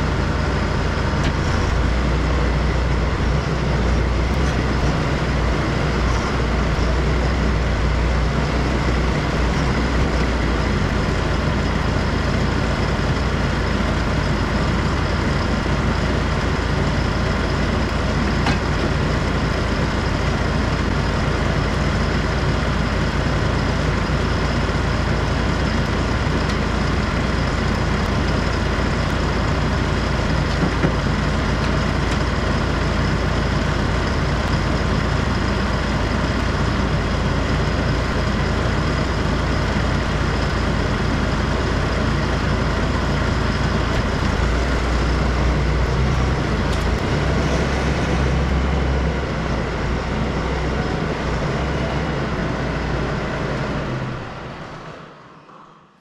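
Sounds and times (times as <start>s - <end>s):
tractor diesel engine idling: 0.0s - 55.3s.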